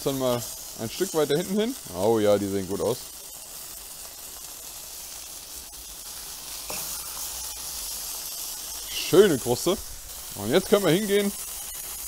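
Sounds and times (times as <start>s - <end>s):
patties sizzling on a hot plate: 0.0s - 12.0s.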